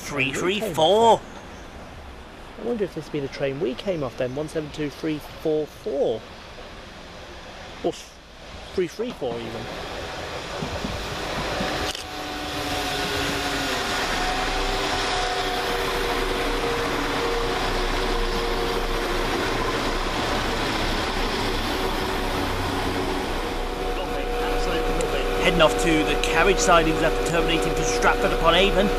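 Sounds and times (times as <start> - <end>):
diesel train engines droning: 0.0 - 28.9
wheel and rail noise: 0.0 - 28.9.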